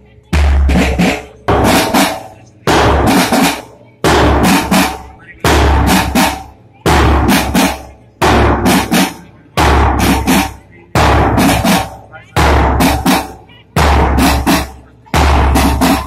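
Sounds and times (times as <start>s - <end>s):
snare drum beats: 0.4s - 16.0s.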